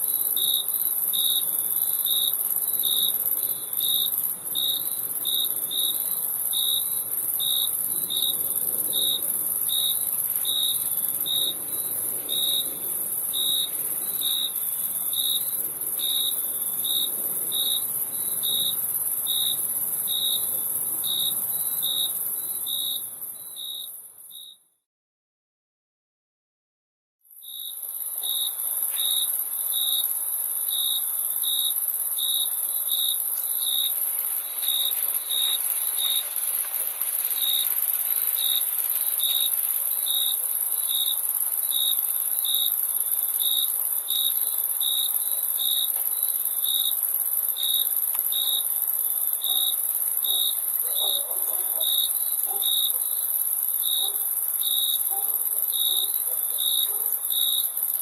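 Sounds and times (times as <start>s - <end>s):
crickets chirping: 0.0s - 24.6s, 27.4s - 58.0s.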